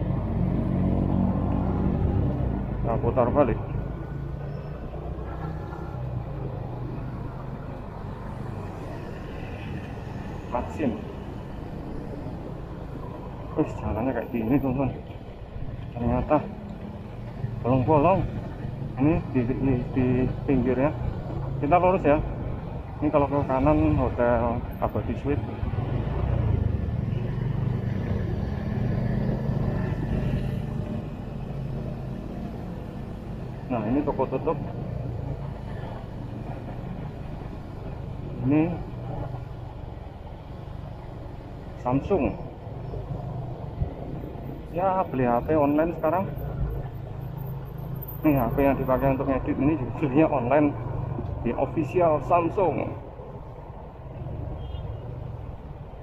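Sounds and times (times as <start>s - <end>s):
road and traffic noise: 0.0s - 56.0s.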